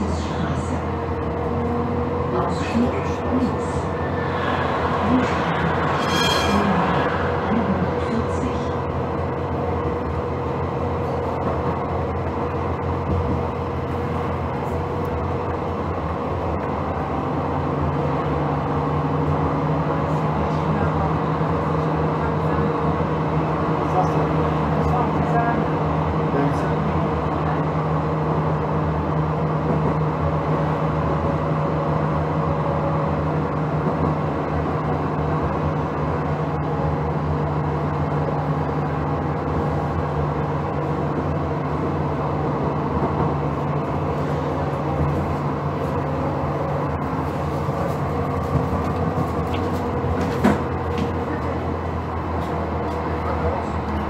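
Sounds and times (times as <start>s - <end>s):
tram electrical equipment humming: 0.0s - 54.0s.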